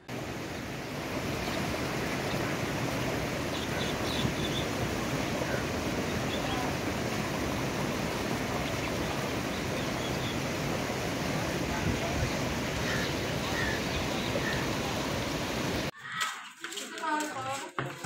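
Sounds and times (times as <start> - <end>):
floodwater rushing: 0.0 - 15.9.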